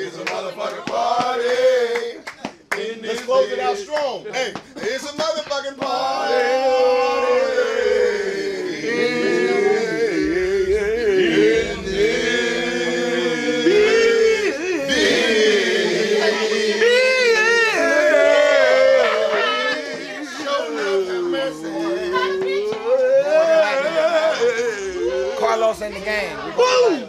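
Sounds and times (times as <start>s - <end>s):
men singing chant-like notes: 0.0s - 3.9s, 4.6s - 25.5s.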